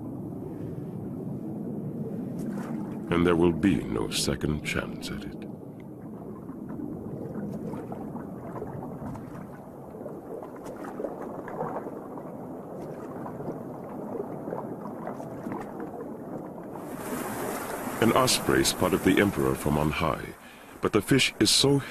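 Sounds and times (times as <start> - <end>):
muffled water churning and gurgling: 0.0 - 21.9.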